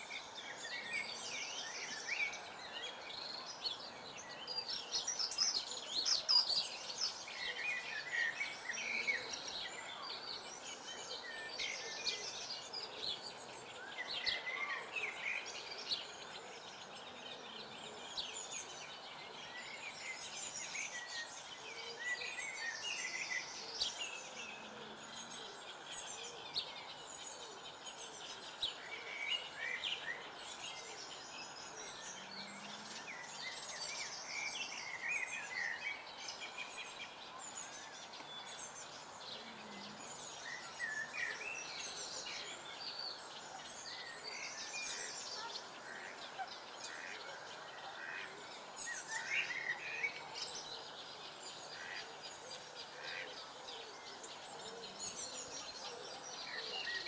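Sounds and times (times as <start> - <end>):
birds chirping and trilling: 0.0 - 57.0
outdoor background hiss: 0.0 - 57.0.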